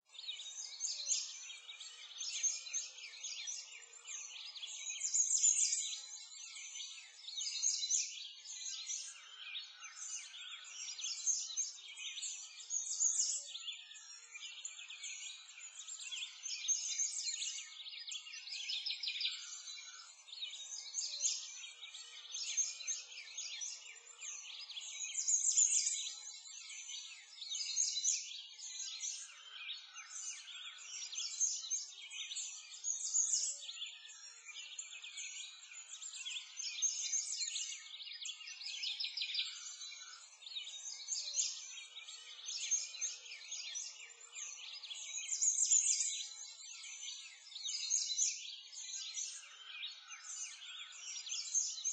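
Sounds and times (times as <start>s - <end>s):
small birds chirping and singing: 0.0s - 51.9s.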